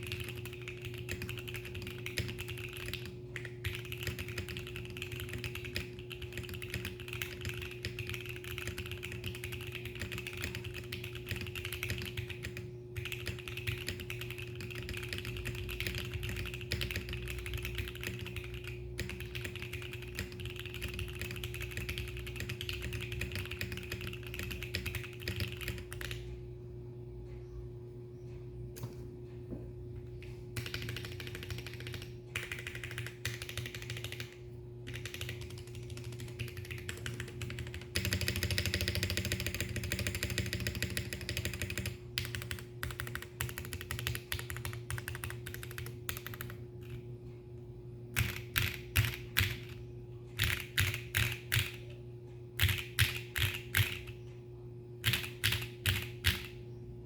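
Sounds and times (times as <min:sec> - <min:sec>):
fast mechanical keyboard typing: 0:00.0 - 0:26.3, 0:30.6 - 0:47.0, 0:48.2 - 0:52.0, 0:52.6 - 0:54.2, 0:55.0 - 0:56.6.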